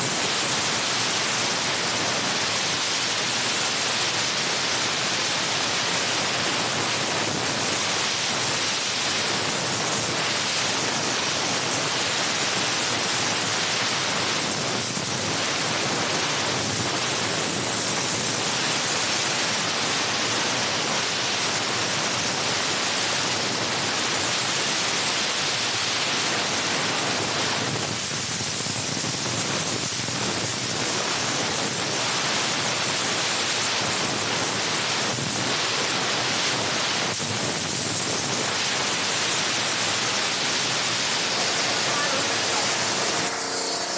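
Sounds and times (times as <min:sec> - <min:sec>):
steam gun hissing: 0:00.0 - 0:43.9.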